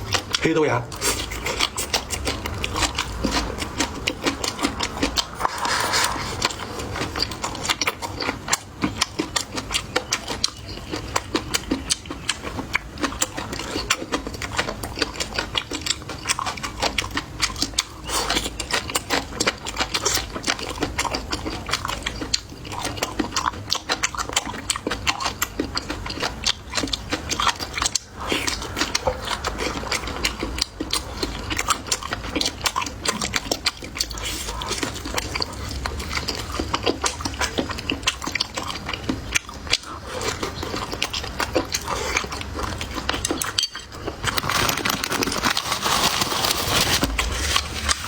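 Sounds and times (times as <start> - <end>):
crunchy chewing: 0.0 - 48.0.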